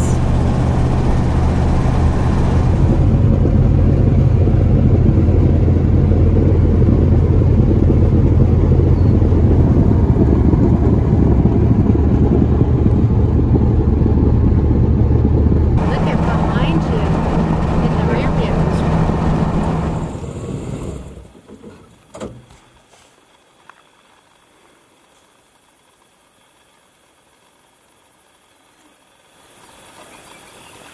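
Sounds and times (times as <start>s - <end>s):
car engine and tyre rumble: 0.0s - 30.9s.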